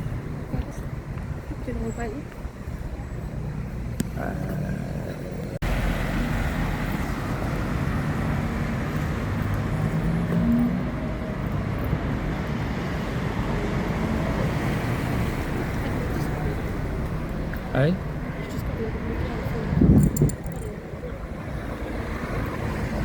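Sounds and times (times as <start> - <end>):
street traffic rumble: 0.0 - 23.0.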